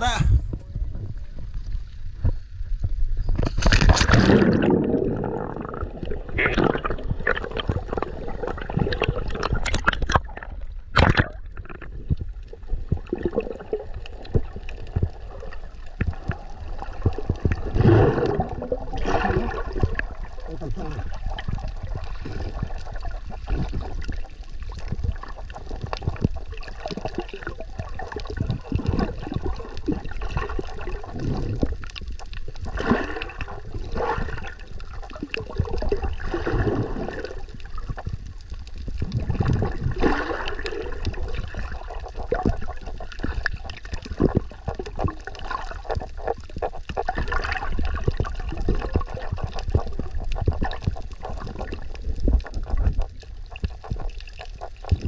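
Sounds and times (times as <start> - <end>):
bubbly swells: 3.7 - 9.6, 16.2 - 55.0.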